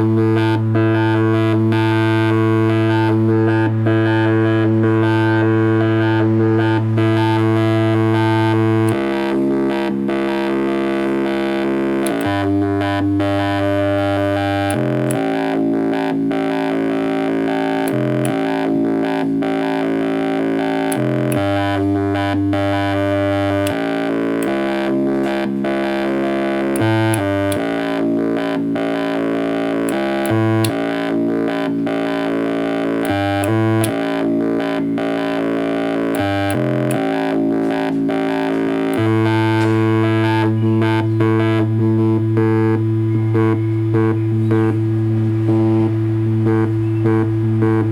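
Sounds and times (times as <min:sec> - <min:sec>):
synthesizer sustained notes: 0:00.0 - 0:47.9.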